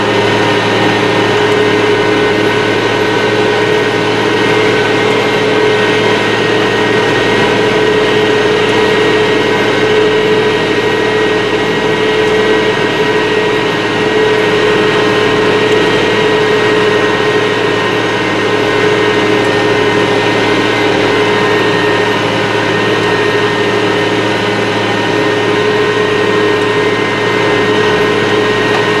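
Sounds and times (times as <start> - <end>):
tractor diesel engine droning: 0.0 - 29.0.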